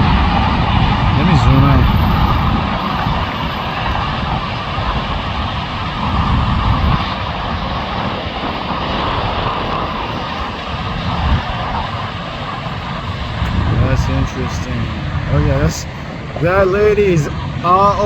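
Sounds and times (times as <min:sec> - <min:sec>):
dense freeway traffic: 0:00.0 - 0:18.0.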